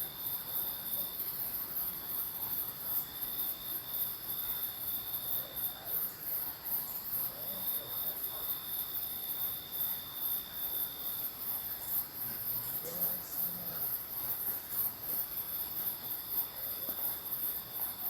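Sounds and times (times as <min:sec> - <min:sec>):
crickets chirping: 0:00.0 - 0:18.0
high insect trill: 0:00.0 - 0:18.0.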